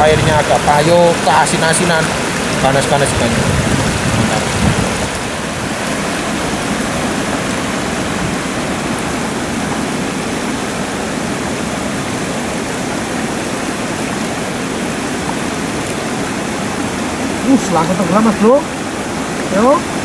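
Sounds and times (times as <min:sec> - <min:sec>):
water spilling over a weir: 0:00.0 - 0:20.0.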